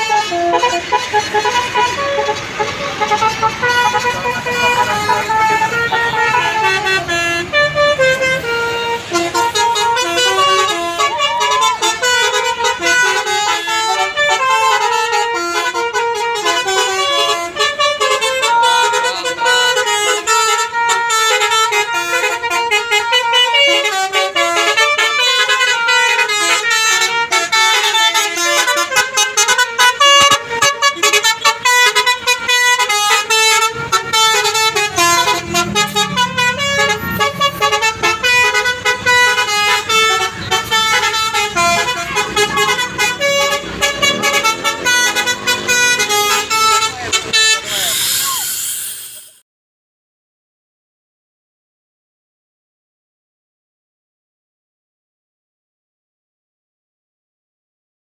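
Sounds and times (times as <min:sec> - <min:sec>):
bus musical horn melody: 0:00.0 - 0:49.2.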